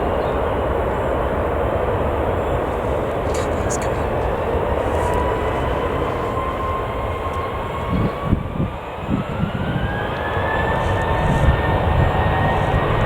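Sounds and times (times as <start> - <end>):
jet engines spooling up: 0.5 - 13.0.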